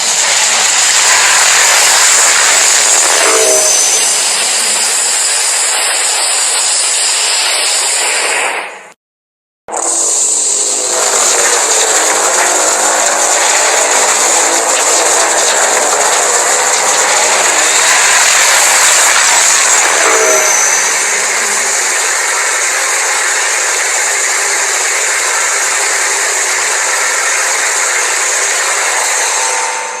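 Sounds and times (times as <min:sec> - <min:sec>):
loud hissing blast: 0:00.0 - 0:08.9, 0:09.7 - 0:29.6.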